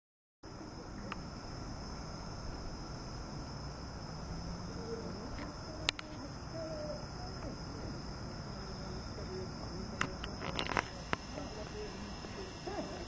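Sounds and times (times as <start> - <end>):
crickets trilling: 0.4 - 13.0.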